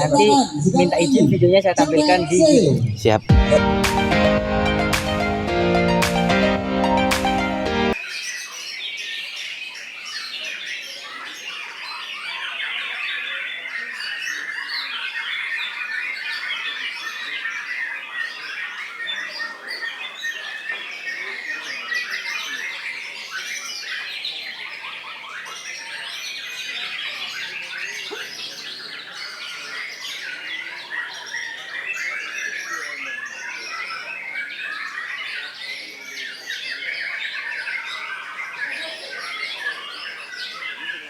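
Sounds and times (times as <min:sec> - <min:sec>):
songbirds chirping and trilling: 0:07.9 - 0:41.0.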